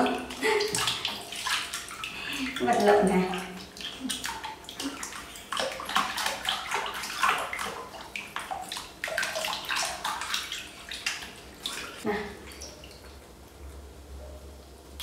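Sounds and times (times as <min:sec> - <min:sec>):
water splashing in plastic basin: 0:00.0 - 0:13.2.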